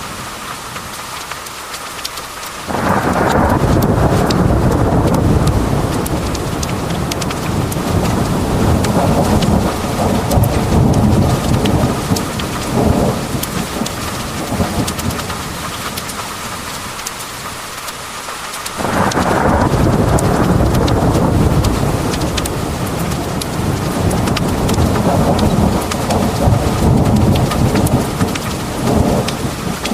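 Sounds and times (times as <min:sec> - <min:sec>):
pouring rain: 0:00.0 - 0:29.9
rain drop ticks: 0:00.4 - 0:29.9
rolling thunder: 0:02.7 - 0:16.7, 0:18.8 - 0:29.9.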